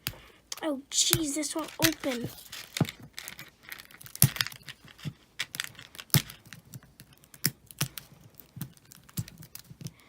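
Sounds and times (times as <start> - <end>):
fingernails clicking on plastic packaging: 0.0 - 10.0.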